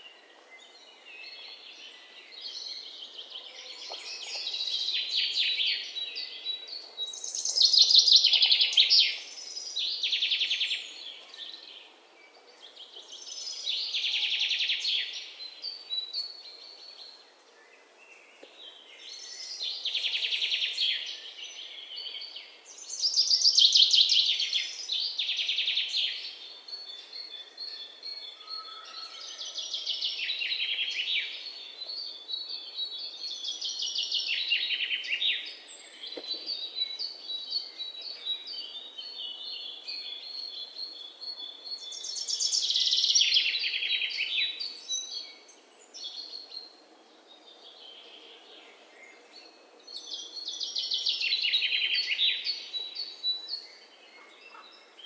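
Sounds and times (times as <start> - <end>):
faint outdoor background noise: 0.0 - 55.0
songbirds singing: 0.0 - 55.0.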